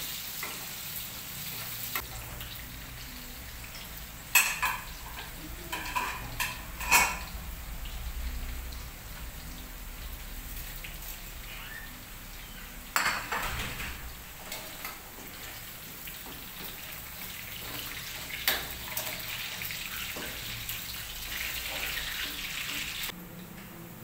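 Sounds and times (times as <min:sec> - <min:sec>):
oil sizzling in a wok: 0:00.0 - 0:13.2, 0:14.2 - 0:23.2.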